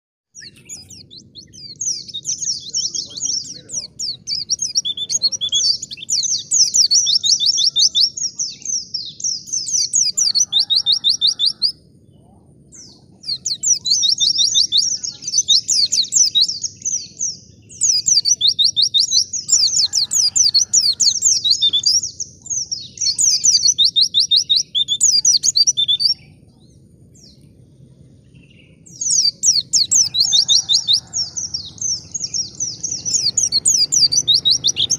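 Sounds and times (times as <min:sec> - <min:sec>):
bird twittering song: 0:00.4 - 0:34.9.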